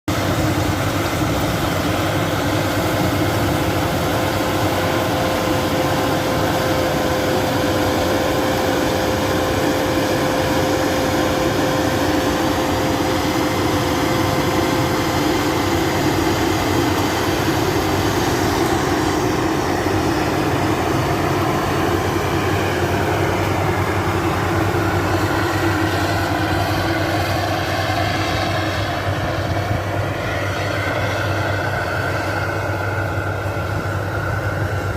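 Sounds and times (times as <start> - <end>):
combine harvester running: 0.1 - 34.9
steady mechanical whine: 0.1 - 34.9.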